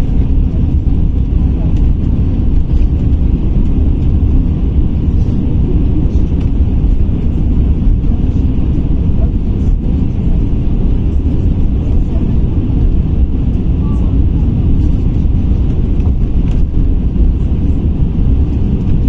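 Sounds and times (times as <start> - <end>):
bus cabin road rumble: 0.0 - 19.0.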